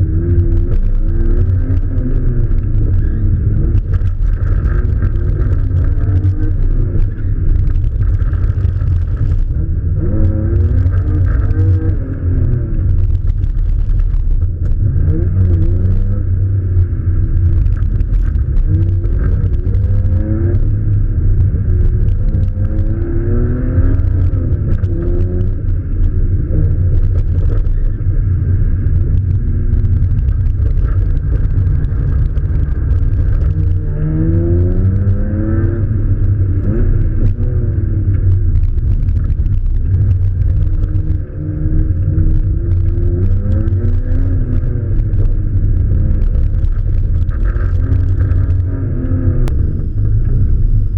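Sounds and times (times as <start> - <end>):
muffled car engine revving: 0.0 - 50.9.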